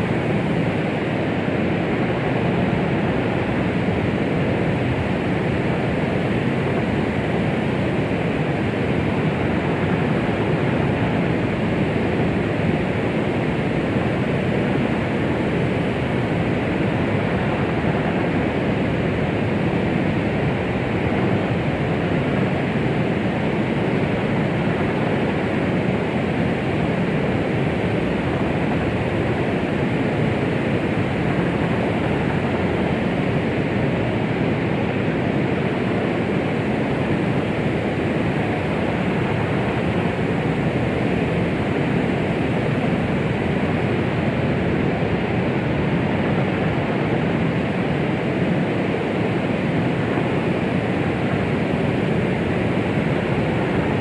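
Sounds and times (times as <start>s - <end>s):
deep rushing white noise: 0.0s - 54.0s.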